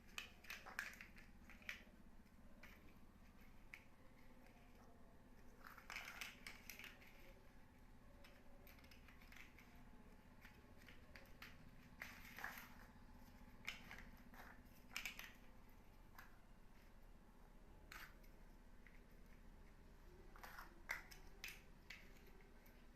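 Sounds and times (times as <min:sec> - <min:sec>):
plastic blocks clicking and snapping: 0:00.0 - 0:16.5, 0:17.9 - 0:22.9
faint low hum: 0:00.0 - 0:22.9.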